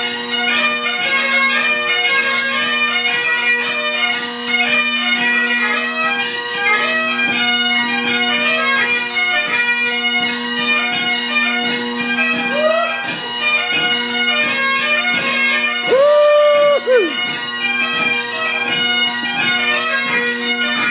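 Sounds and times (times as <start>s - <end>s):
bagpipes playing: 0.0s - 20.9s.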